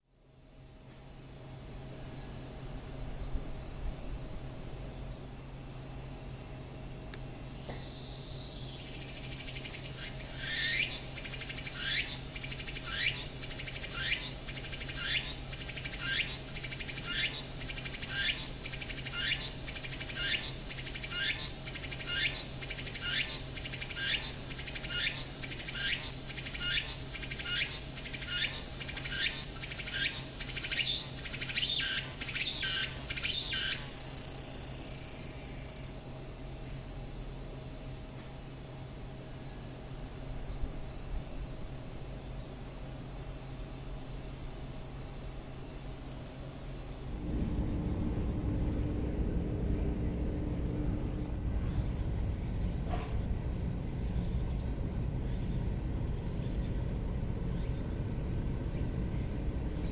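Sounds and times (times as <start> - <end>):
cicada singing: 0.0 - 59.9
high hiss of insect noise: 0.0 - 59.9.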